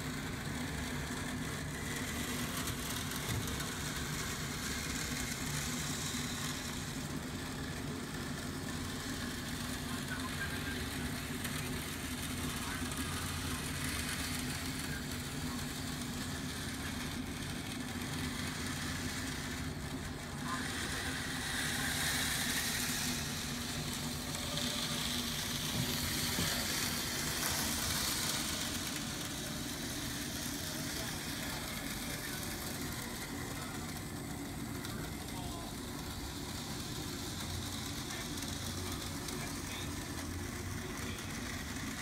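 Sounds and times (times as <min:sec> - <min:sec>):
model train motor whir: 0:00.0 - 0:42.0
model train wheels rattling: 0:00.0 - 0:42.0
steady low hum: 0:00.0 - 0:42.0.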